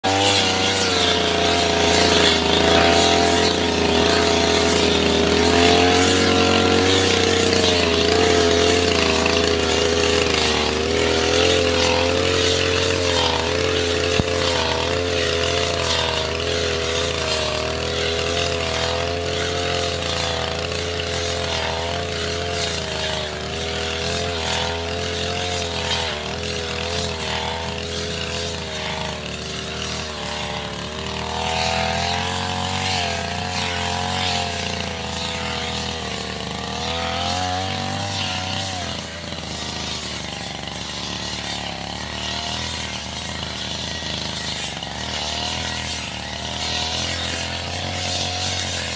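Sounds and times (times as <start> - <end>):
brush cutter petrol engine: 0.0 - 48.9.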